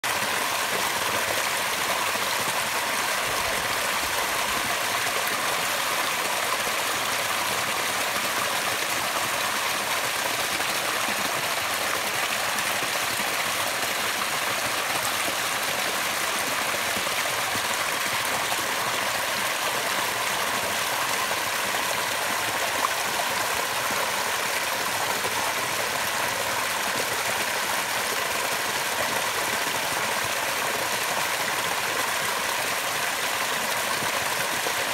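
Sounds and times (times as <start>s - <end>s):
small waterfall splashing into pool: 0.0s - 34.9s.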